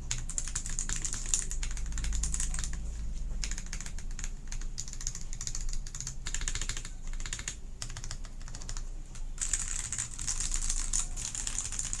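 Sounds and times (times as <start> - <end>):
mechanical keyboard typing: 0.1 - 12.0.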